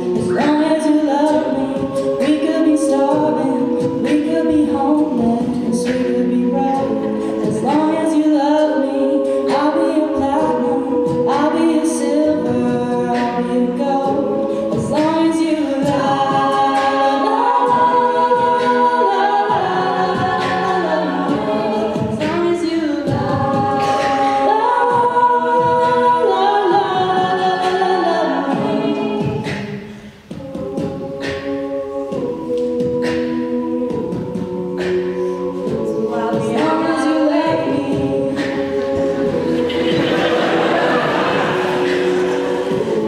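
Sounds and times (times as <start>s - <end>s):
a cappella group singing: 0.0s - 43.0s
vocal percussion beat: 0.0s - 43.0s.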